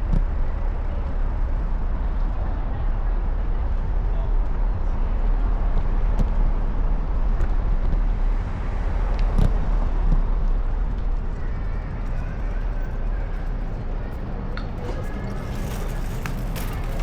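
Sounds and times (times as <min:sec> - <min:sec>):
road and traffic noise: 0:00.0 - 0:17.0
wind rumble on microphone: 0:00.0 - 0:17.0.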